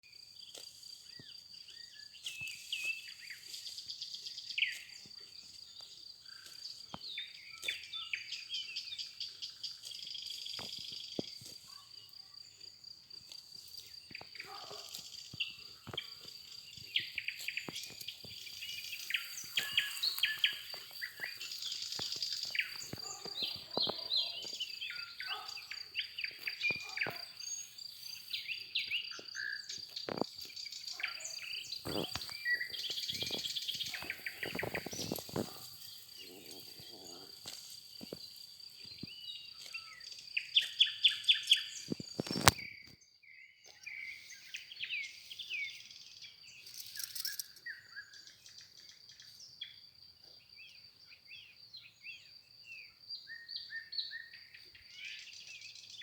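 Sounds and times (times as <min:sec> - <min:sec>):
songbirds chirping and singing: 0:00.1 - 0:56.0
high insect trill: 0:00.3 - 0:42.7, 0:45.0 - 0:49.2.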